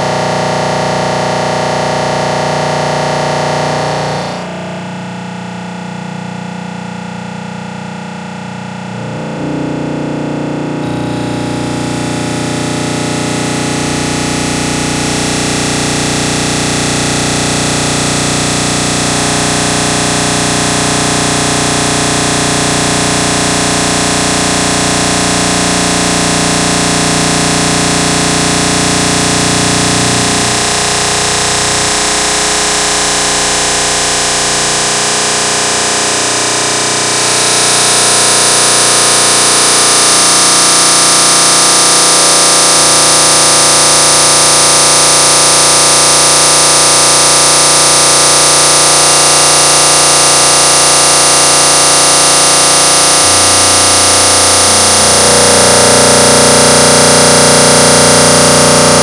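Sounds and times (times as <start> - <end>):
loud noise drone: 0.0 - 6.0, 7.0 - 59.0.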